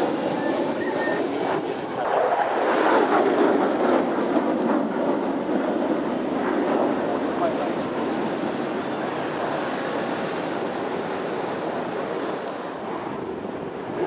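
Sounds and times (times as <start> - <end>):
fighter jet flying past: 0.0 - 14.0.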